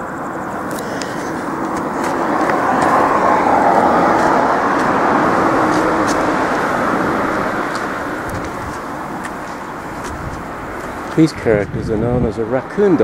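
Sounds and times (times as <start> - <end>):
vehicle passing by rushing: 0.2 - 11.8.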